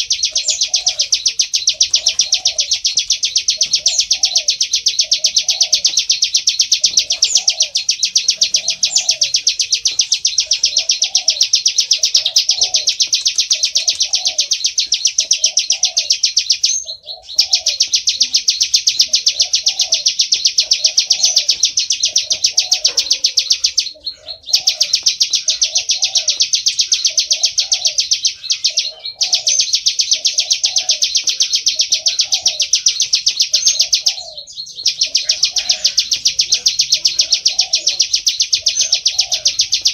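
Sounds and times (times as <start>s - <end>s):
bird buzzy trill: 0.0s - 39.9s.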